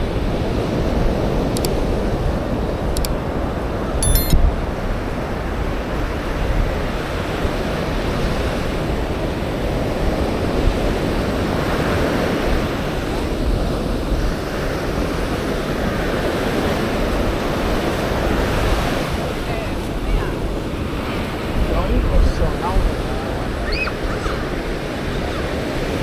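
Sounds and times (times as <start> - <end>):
wind rumbling on microphone: 0.0 - 26.0
ocean surf washing ashore: 4.6 - 26.0.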